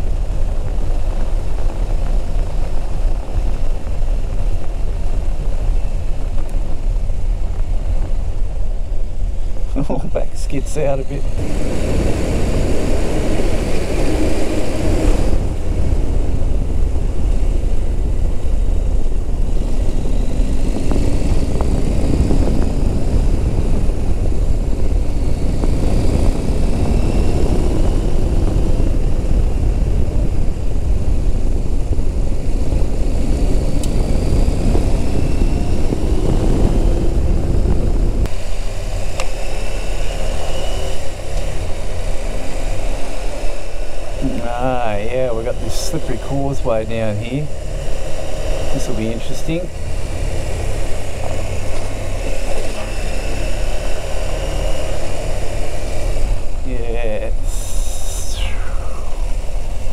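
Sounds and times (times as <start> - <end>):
motorcycle engine accelerating: 0.0 - 59.9
wind and road noise rumble: 0.0 - 59.9.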